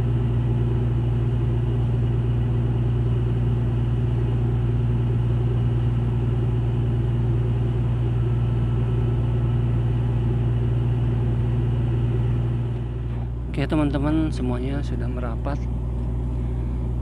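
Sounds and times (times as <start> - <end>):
ship engine droning: 0.0 - 17.0.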